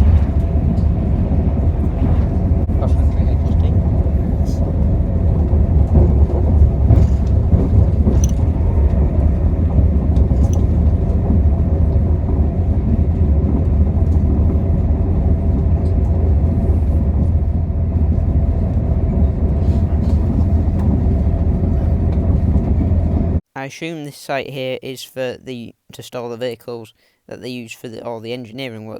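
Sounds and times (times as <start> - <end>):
train rumbling inside carriage: 0.0 - 23.4.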